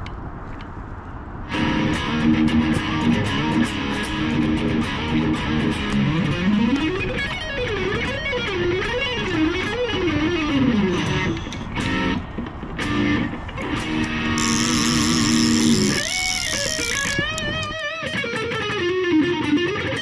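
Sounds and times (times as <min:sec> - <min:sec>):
electric guitar music: 0:01.5 - 0:20.0.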